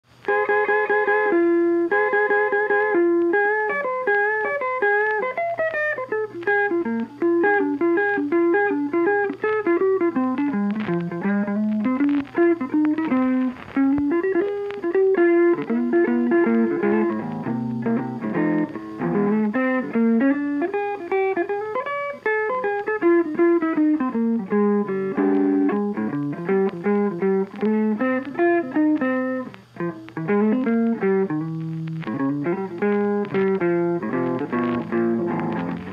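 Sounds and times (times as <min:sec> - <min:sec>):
instrumental music with quick notes: 0:00.3 - 0:35.9.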